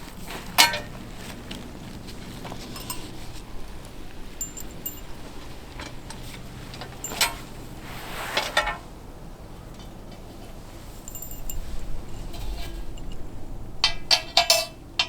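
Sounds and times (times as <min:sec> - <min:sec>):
light metallic clinks: 0:00.0 - 0:07.8, 0:09.8 - 0:15.0.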